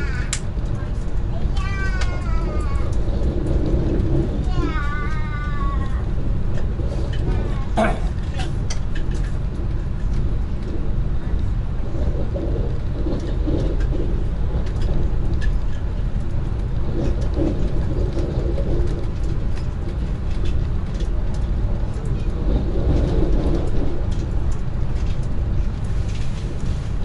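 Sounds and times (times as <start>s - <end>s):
electric train rumble: 0.0s - 27.0s.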